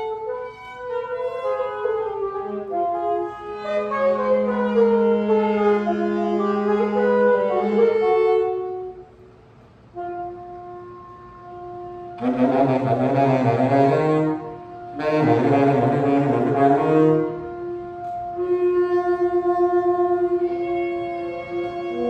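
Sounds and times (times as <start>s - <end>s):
saxophones improvising free jazz: 0.0s - 22.0s.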